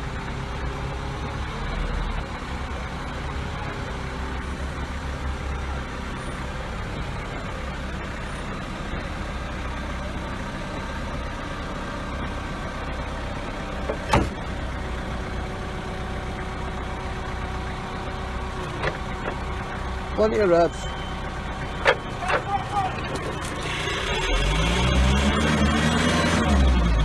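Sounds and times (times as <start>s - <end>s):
forklift engine running: 0.0s - 27.0s.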